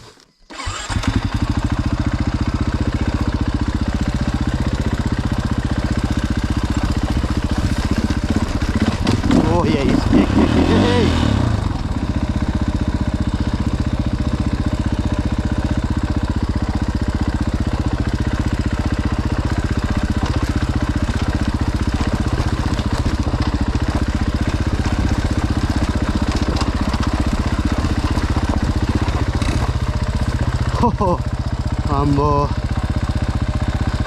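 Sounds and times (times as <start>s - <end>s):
dirt bike engine idling: 0.0s - 34.0s.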